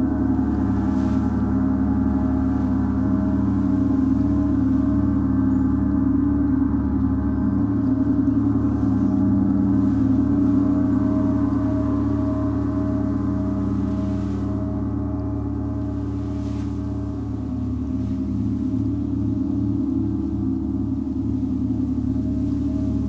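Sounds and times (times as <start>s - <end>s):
gong ringing: 0.0s - 23.0s.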